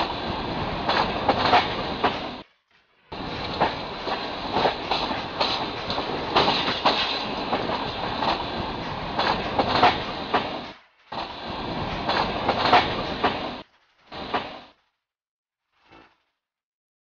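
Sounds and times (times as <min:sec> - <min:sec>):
train rumble and rush: 0:00.0 - 0:14.8.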